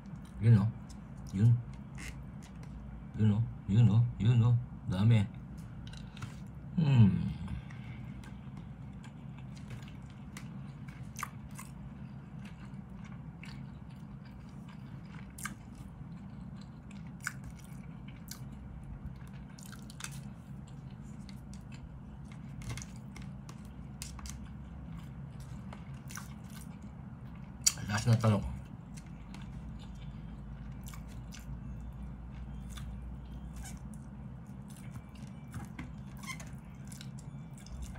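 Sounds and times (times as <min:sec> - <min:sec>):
person chewing food: 0:05.5 - 0:06.6, 0:07.4 - 0:27.8, 0:28.6 - 0:37.9.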